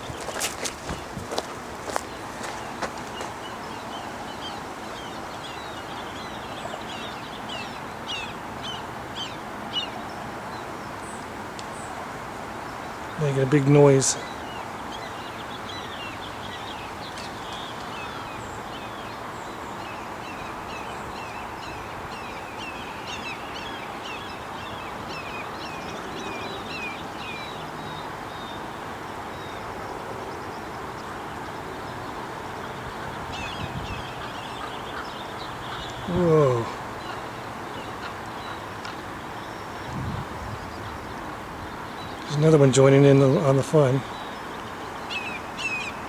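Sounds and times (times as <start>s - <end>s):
birds chirping: 0.0s - 46.0s
outdoor background hiss: 0.0s - 46.0s.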